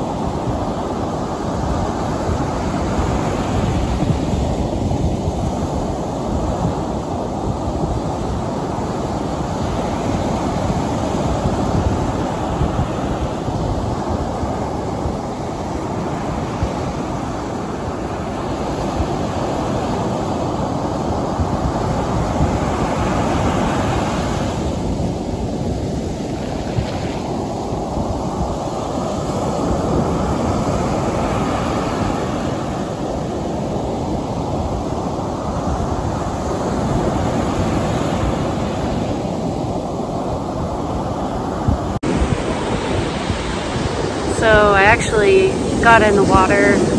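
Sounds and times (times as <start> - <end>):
waves breaking on a beach: 0.0 - 46.9.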